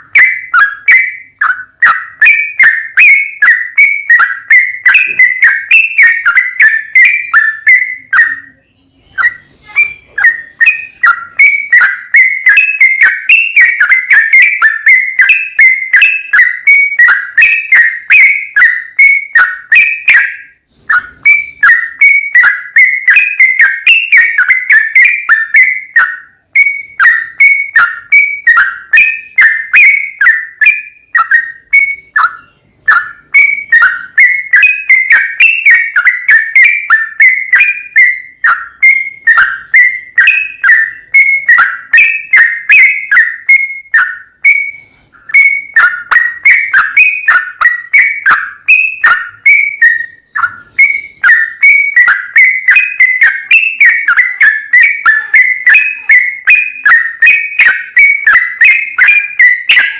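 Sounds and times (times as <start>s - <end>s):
bird whistled chirps: 0.0s - 59.9s.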